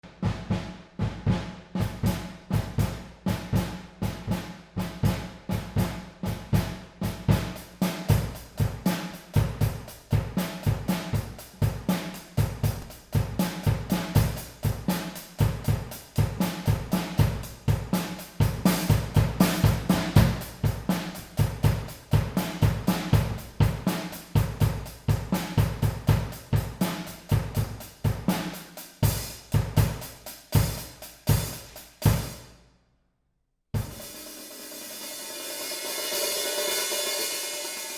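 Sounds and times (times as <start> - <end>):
drum kit playing: 0.0 - 32.5, 33.8 - 37.9.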